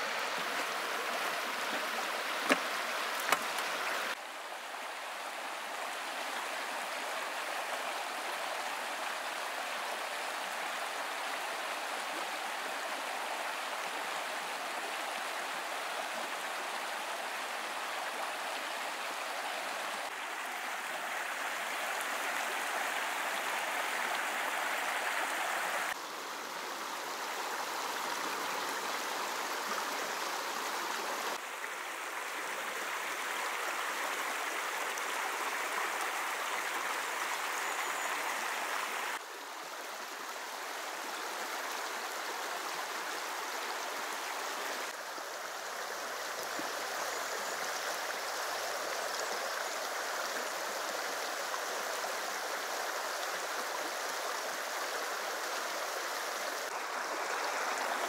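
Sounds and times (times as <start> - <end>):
brook running over stones: 0.0 - 58.0.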